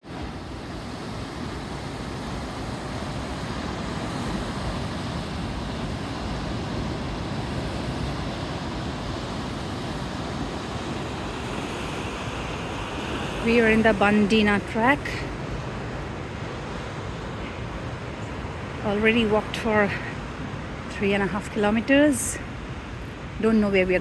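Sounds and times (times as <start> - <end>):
sea surf: 0.0 - 24.0
wind: 0.0 - 24.0.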